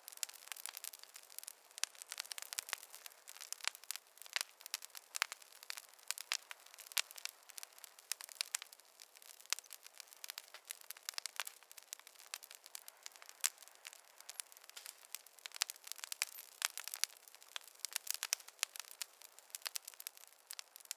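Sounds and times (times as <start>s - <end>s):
campfire crackling: 0.0s - 20.9s.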